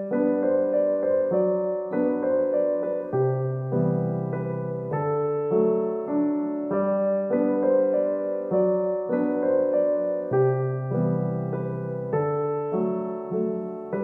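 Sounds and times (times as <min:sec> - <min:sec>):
soft piano keyboard chords: 0:00.0 - 0:14.0.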